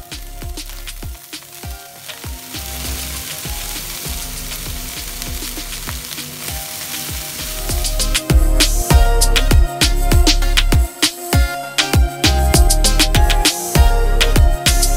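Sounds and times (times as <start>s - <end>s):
music with a steady beat: 0.0s - 14.9s
rice sizzling in a wok: 0.0s - 14.9s.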